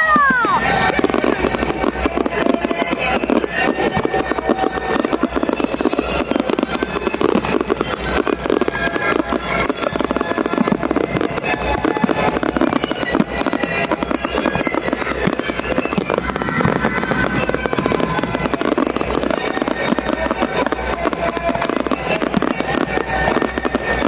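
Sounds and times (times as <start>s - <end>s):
fireworks cracks and bangs: 0.0s - 24.0s.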